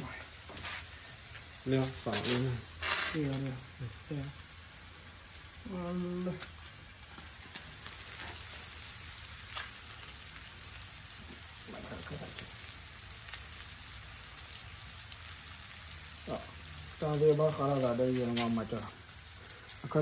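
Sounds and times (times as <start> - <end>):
low burner hum: 0.0 - 20.0
meat sizzling in a wok: 0.0 - 20.0.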